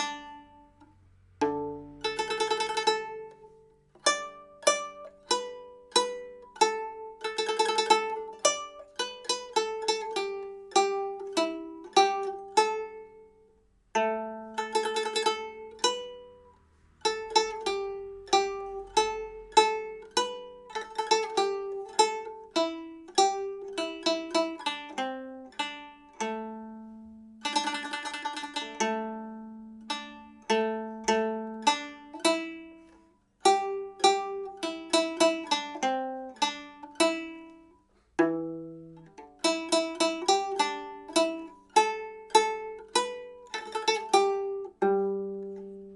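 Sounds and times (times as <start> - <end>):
plucked pipa notes: 0.0 - 45.9.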